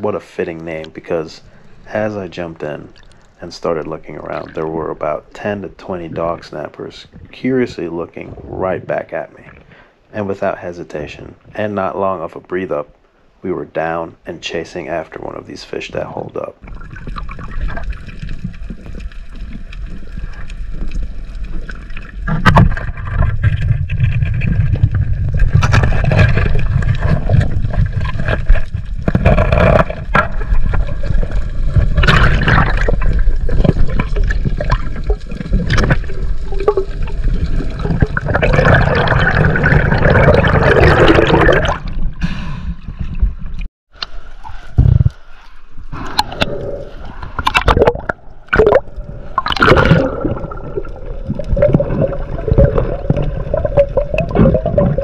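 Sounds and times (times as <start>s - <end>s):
underwater water rushing and gurgling: 1.0s - 9.6s, 16.6s - 55.0s.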